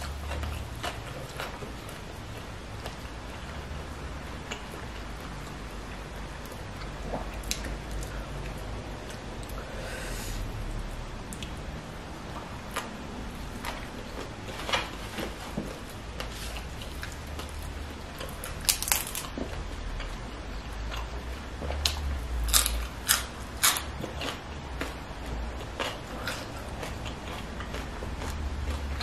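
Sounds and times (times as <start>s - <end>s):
person chewing crunchy food: 0.0s - 10.2s, 12.6s - 29.0s.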